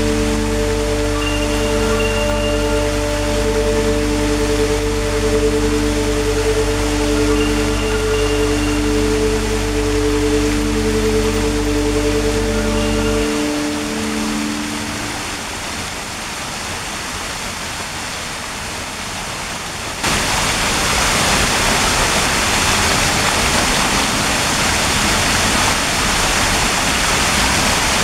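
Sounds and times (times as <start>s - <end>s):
fountain water trickling and splashing: 0.0s - 28.0s.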